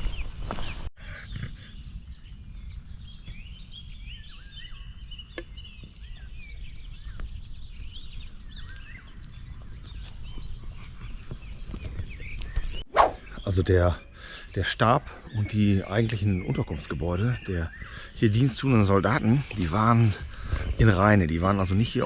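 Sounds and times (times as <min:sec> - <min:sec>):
birds singing and chirping: 0:00.0 - 0:22.0.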